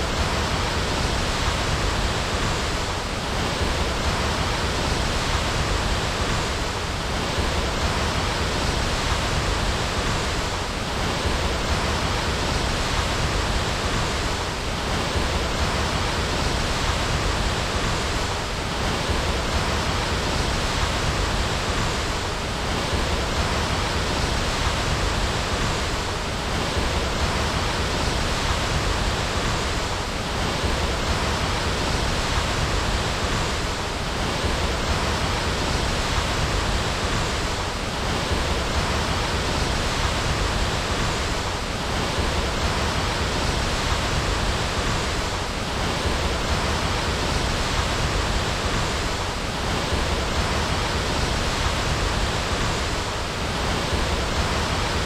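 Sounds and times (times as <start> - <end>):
waterfall roar: 0.0 - 55.0.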